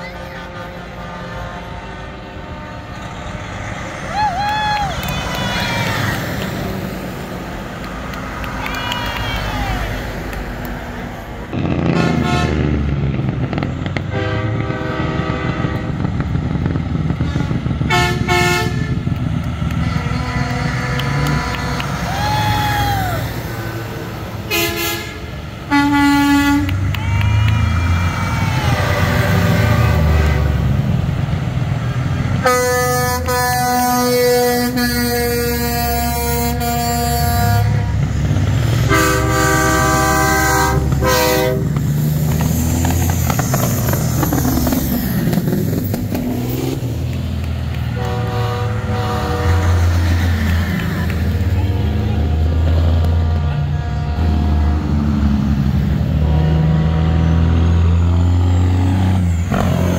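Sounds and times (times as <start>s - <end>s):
truck air horns blasting: 0.0s - 3.8s, 11.5s - 22.7s, 23.4s - 31.3s, 32.3s - 46.9s, 47.7s - 59.9s
diesel engines running: 0.0s - 59.9s.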